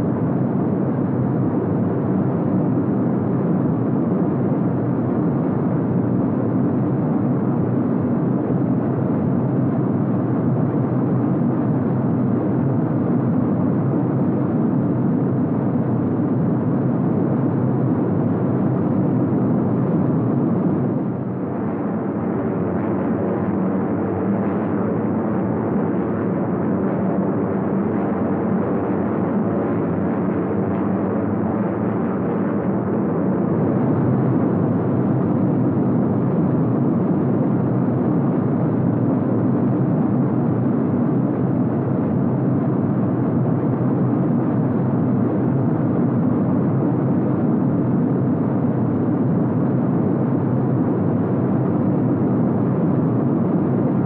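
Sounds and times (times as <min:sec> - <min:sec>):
piston engines droning in flight: 0:00.0 - 0:54.0.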